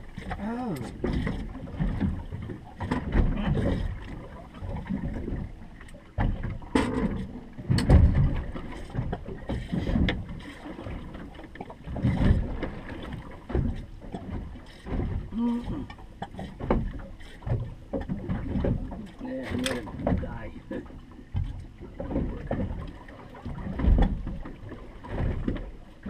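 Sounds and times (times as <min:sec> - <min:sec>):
water against boat hull: 0:00.0 - 0:26.0.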